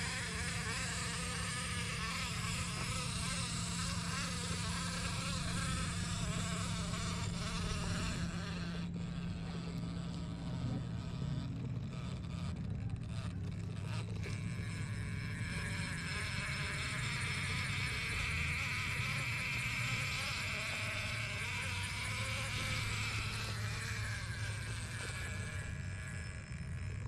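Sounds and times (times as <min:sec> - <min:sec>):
rc truck motor whining: 0:00.0 - 0:27.0.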